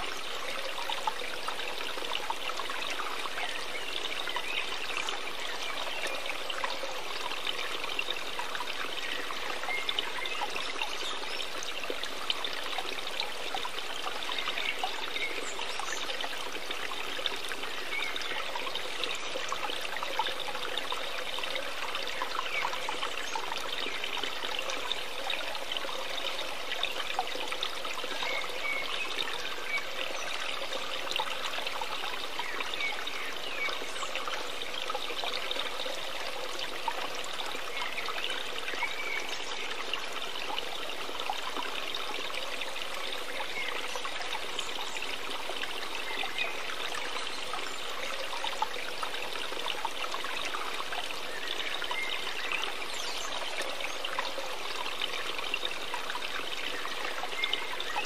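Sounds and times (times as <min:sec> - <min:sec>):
trickling water: 0:00.0 - 0:58.0.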